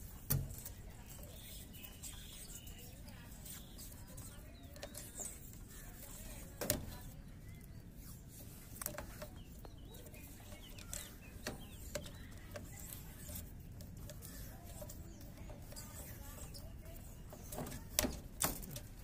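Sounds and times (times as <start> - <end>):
faint birds calling: 1.0 - 18.1.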